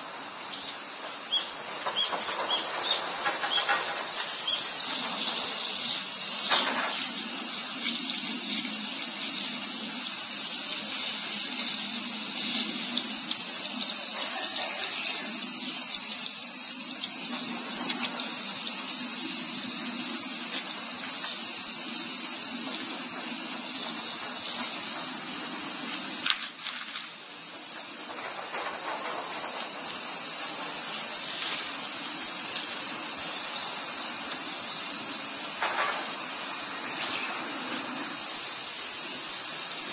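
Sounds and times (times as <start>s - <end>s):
high-pitched insect drone: 0.0s - 39.9s
hose water spraying and splashing: 0.0s - 39.9s.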